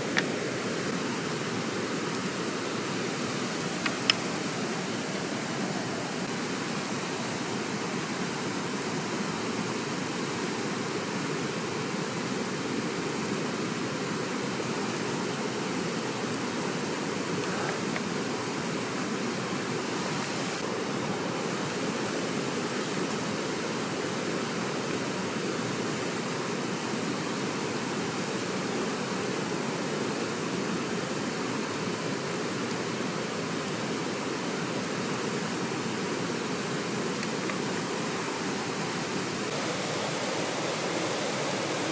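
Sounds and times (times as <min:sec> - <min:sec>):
mountain stream flowing: 0:00.0 - 0:41.9.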